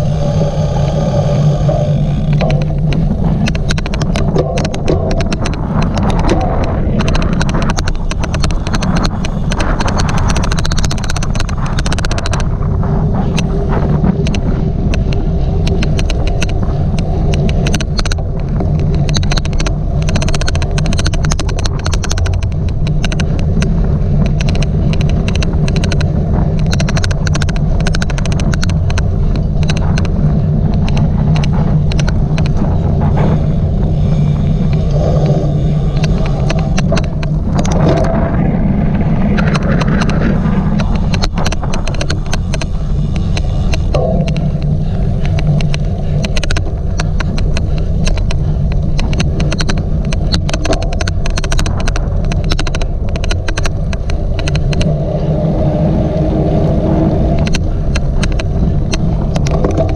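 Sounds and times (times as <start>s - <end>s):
bike low rumble: 0.0s - 59.9s
rapid irregular clicking: 0.0s - 59.9s.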